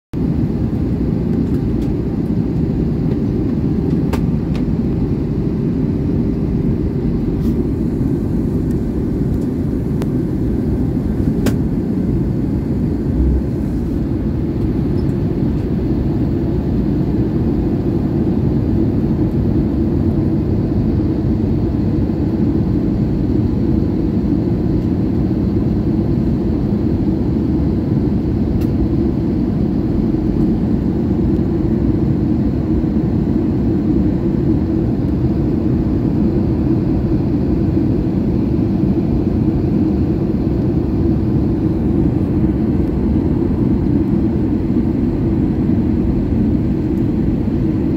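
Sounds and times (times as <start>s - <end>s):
airliner cabin rumble: 0.1s - 47.9s.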